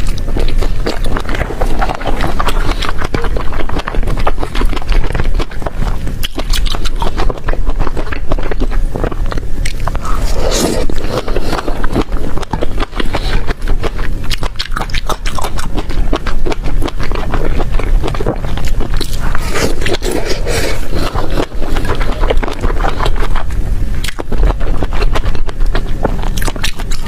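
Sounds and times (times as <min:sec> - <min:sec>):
chewing crisp food: 0:00.0 - 0:27.0.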